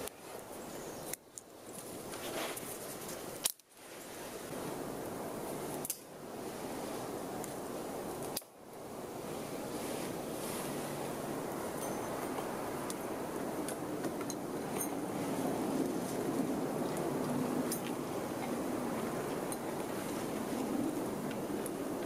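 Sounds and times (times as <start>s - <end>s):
wind hiss: 0.0s - 22.0s.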